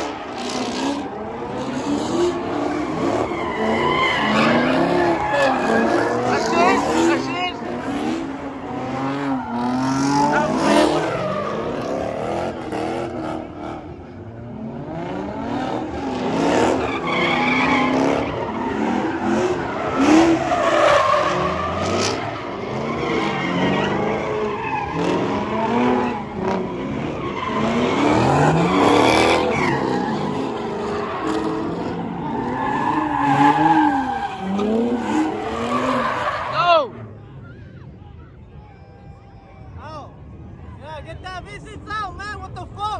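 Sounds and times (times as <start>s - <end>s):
car engines revving hard: 0.0s - 37.4s
tyres squealing and skidding: 0.0s - 38.3s.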